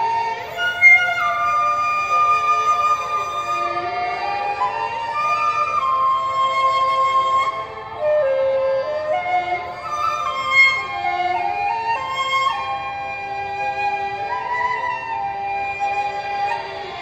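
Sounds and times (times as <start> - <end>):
bamboo flute melody: 0.0 - 17.0
sustained accompaniment notes: 0.0 - 17.0.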